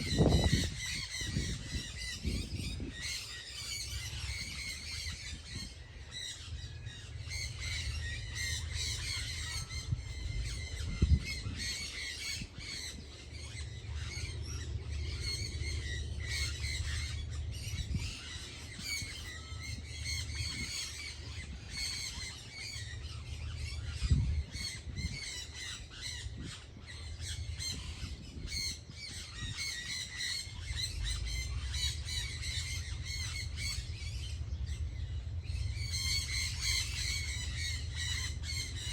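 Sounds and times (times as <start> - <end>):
chorus of birds calling: 0.0 - 38.9
steady low rumble: 0.0 - 38.9.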